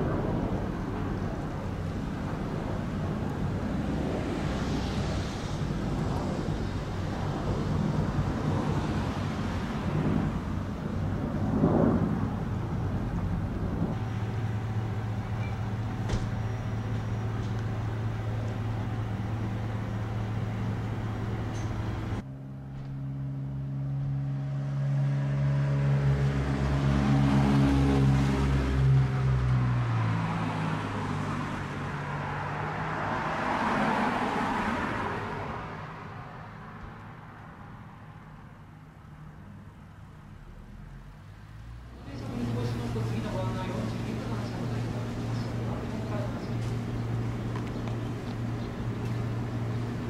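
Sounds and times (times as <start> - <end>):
engine hum: 0.0 - 50.0
passing traffic: 0.0 - 50.0.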